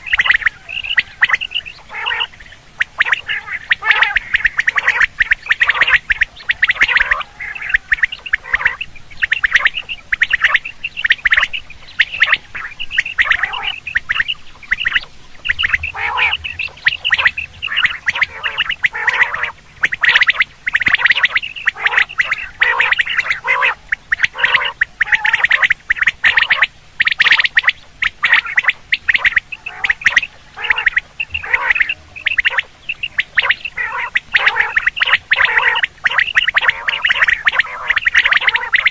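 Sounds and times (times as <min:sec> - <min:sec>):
quail calling: 0:00.0 - 0:38.9.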